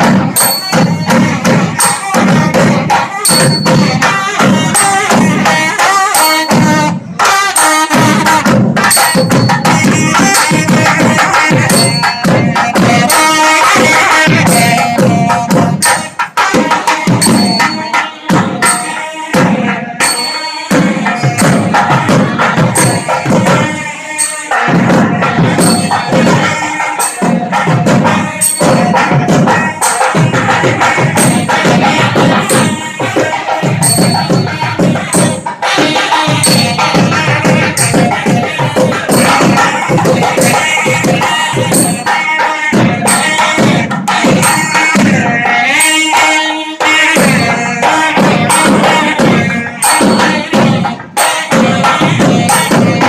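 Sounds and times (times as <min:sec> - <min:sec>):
hand drums beating: 0:00.0 - 0:53.0.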